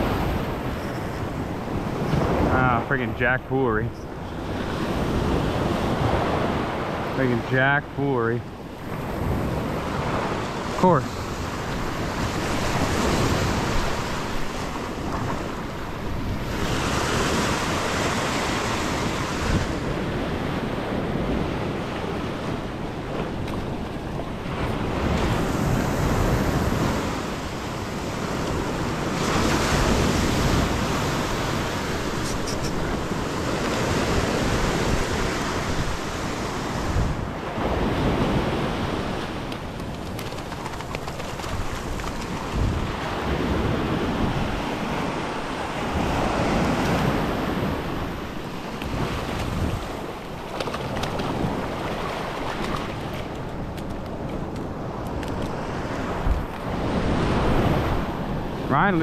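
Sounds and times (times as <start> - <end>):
wind on microphone: 0.0 - 3.3, 8.4 - 59.0
small surf washing up beach: 0.0 - 59.0.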